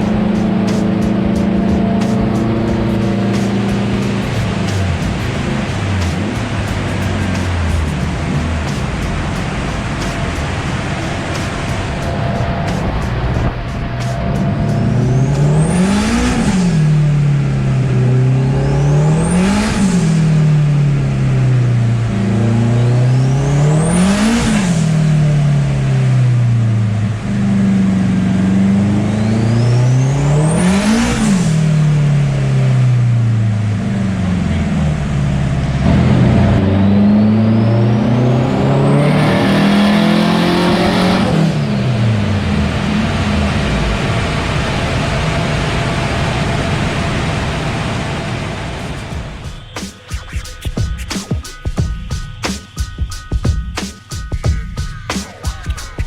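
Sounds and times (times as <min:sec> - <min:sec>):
car engine revving: 0:00.0 - 0:50.4.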